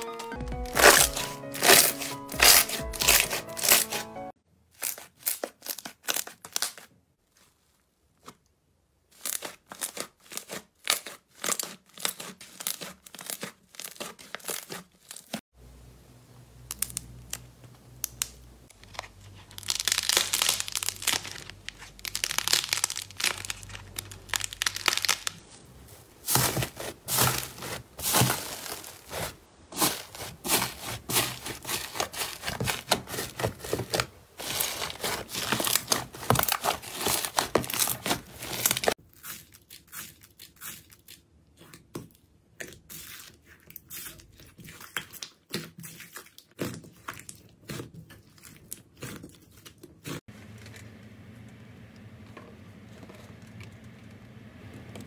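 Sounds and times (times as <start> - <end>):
slime squelching and crackling: 0.6 - 8.3, 9.1 - 15.4, 16.6 - 51.1.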